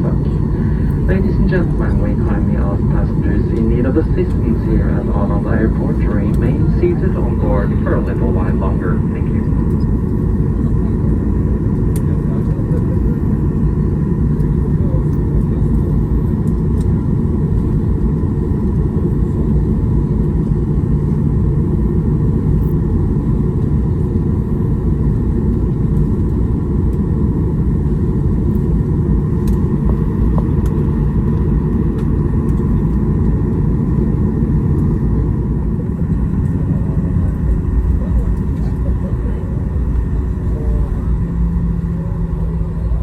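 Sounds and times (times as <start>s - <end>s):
faint steady whine: 0.0s - 43.0s
jet cabin rumble: 0.0s - 43.0s.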